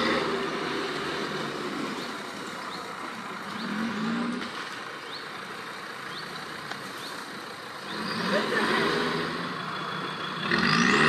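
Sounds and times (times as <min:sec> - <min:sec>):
vehicle engine revving: 0:00.0 - 0:02.4, 0:03.3 - 0:05.2, 0:06.1 - 0:11.0.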